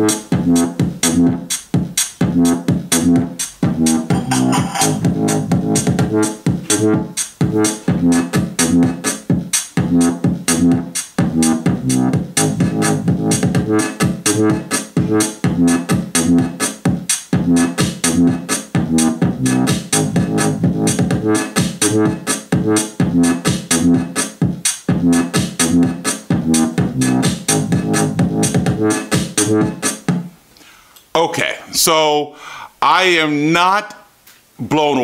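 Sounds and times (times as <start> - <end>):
electronic dance music on speaker: 0.0 - 30.3.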